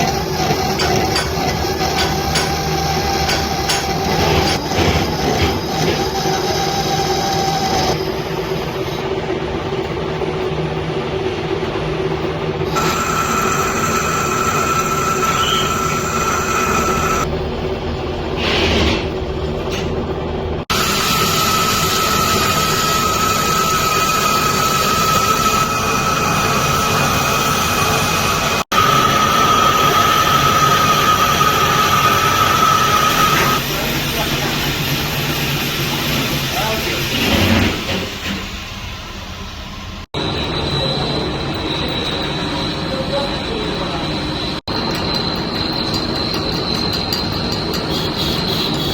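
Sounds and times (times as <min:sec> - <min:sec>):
metal lathe running with whine: 0:00.0 - 0:17.6, 0:20.7 - 0:37.4, 0:38.9 - 0:48.9.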